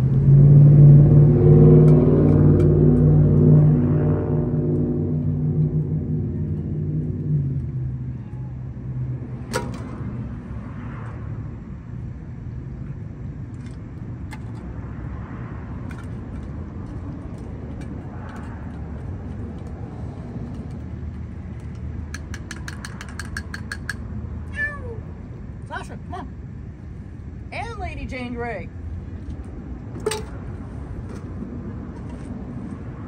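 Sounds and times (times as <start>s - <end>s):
low rumble of traffic: 0.0s - 33.0s
vehicle engine hum: 0.0s - 33.0s.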